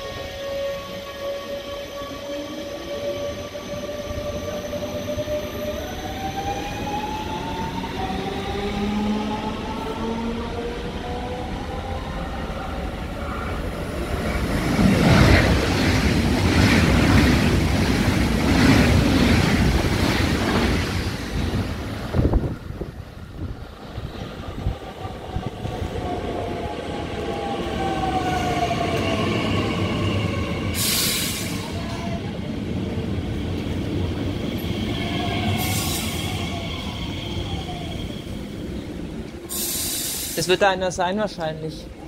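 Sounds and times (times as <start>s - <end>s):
electric train whine: 0.0s - 40.6s.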